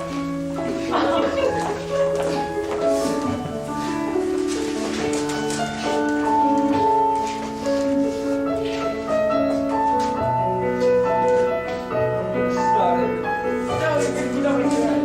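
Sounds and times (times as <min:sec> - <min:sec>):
slow piano chords with melody: 0:00.0 - 0:15.0.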